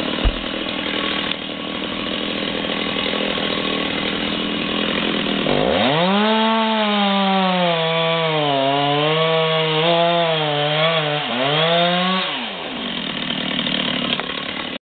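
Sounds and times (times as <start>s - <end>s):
chainsaw cutting wood: 0.0s - 14.8s.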